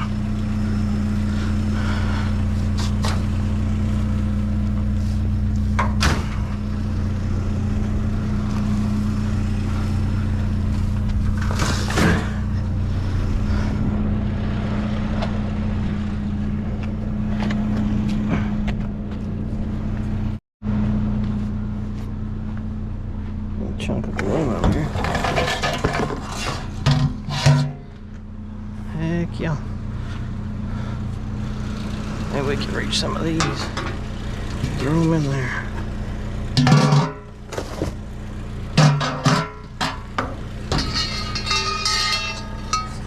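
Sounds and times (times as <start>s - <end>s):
vehicle engine humming: 0.0s - 43.0s.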